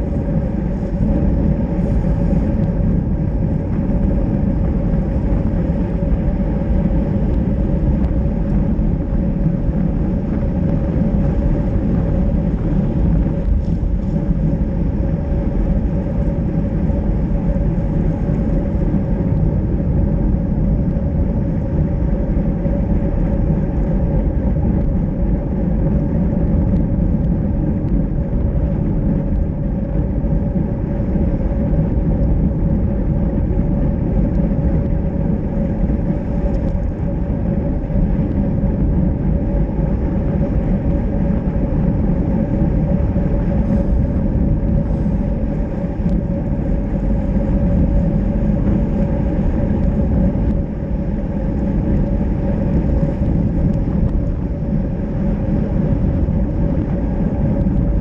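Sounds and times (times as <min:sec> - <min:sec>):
steady hum: 0:00.0 - 0:58.0
wind rushing over microphone: 0:00.0 - 0:58.0.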